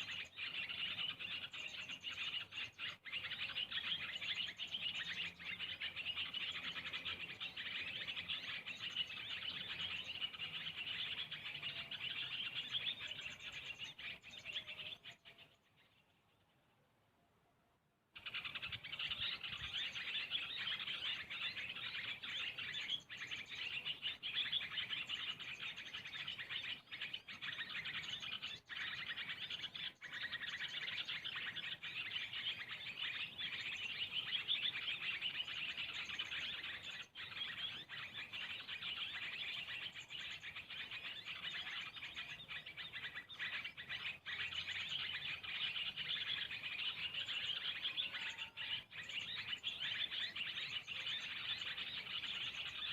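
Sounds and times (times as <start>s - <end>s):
small birds chirping: 0.0s - 16.9s, 18.1s - 52.9s.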